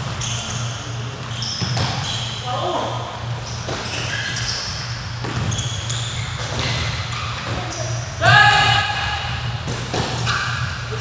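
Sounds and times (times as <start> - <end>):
sneakers squeaking on court: 0.0 - 8.4, 9.3 - 11.0.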